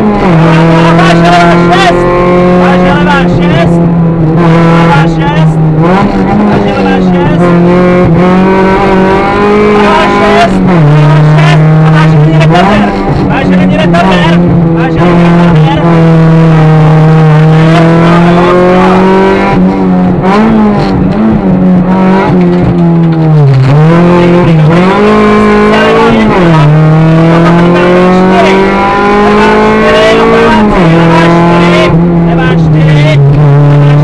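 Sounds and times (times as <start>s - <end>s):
car engine revving in cabin: 0.0s - 34.0s.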